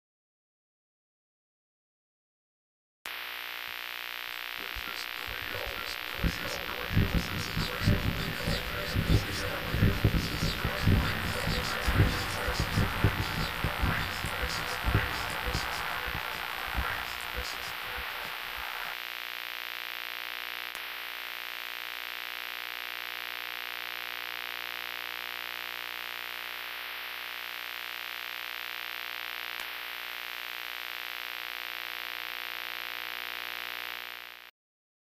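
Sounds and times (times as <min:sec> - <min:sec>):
electronic static hiss: 0:03.1 - 0:34.5.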